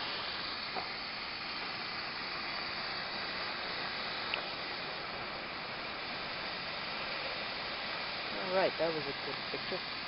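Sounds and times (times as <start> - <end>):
gas torch hissing: 0.0 - 10.0.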